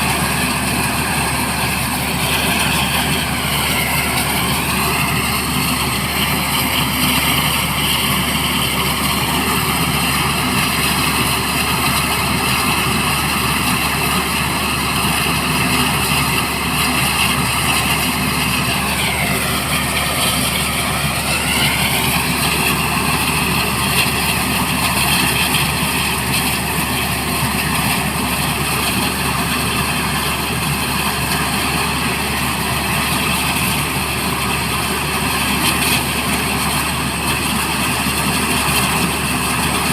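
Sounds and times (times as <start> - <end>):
helicopter engines and rotor roar: 0.0 - 39.9
high turbine whine: 0.0 - 39.9.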